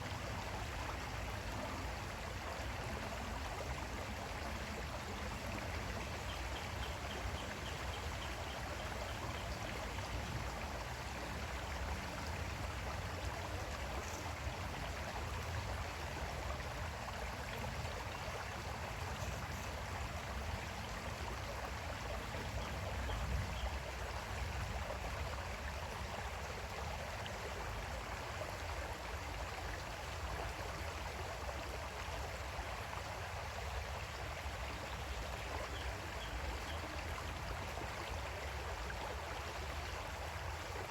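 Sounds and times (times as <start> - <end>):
creek water flowing over stones: 0.0 - 40.9.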